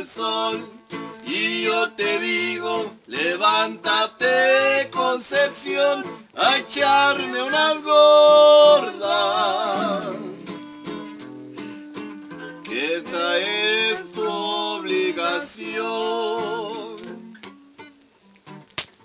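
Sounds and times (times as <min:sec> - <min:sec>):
person singing with vibrato: 0:00.0 - 0:10.6, 0:12.7 - 0:17.3
strummed acoustic guitar: 0:00.0 - 0:18.9.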